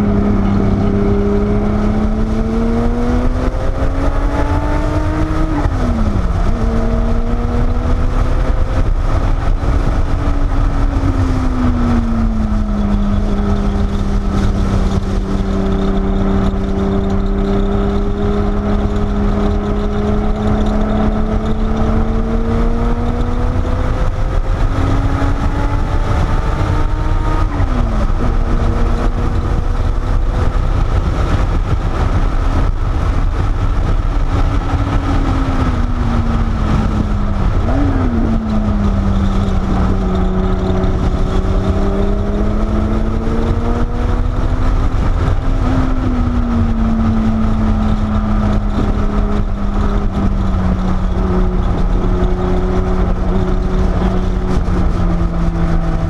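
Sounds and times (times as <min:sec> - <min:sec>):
car engine from inside cabin: 0:00.0 - 0:56.0
road and wind rumble: 0:00.0 - 0:56.0.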